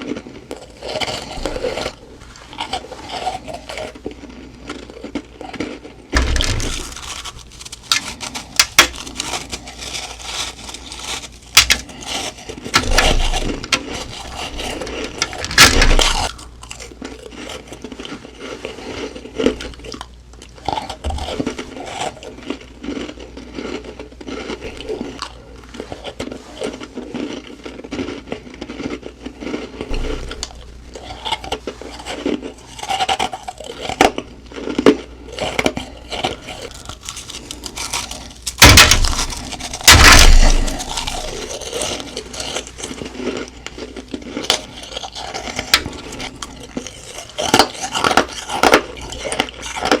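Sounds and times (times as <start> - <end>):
crunching bites of frost: 0.0 - 50.0.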